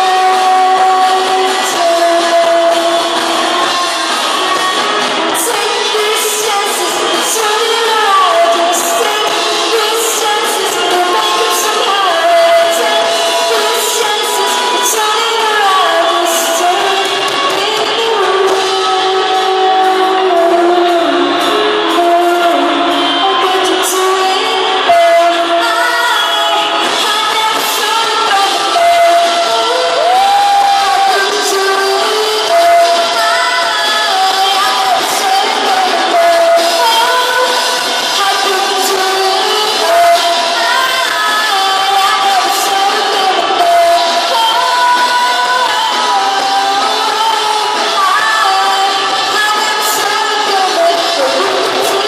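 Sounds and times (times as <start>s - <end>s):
drums: 0.0s - 52.0s
female vocalist singing: 0.0s - 52.0s.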